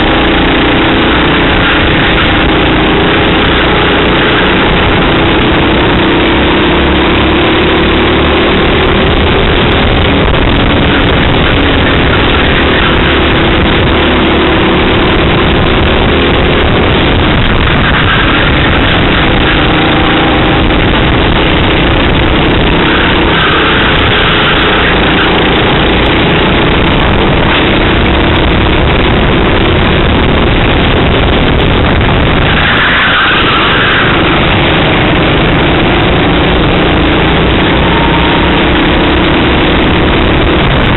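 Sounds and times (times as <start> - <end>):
racing kart engine running hard: 0.0 - 40.9
wind rushing over microphone: 0.0 - 40.9.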